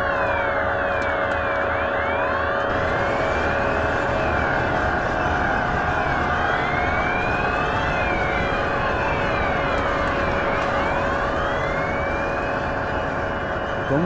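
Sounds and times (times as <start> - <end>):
police sirens wailing: 0.0 - 14.0
background rumble: 2.7 - 14.0.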